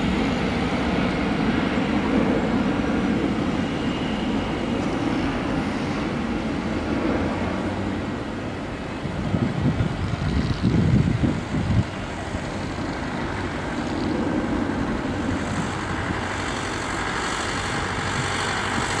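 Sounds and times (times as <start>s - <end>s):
gusty wind buffeting: 0.0s - 19.0s
high engine whine: 0.0s - 19.0s
jet engines idling rumble: 0.0s - 19.0s.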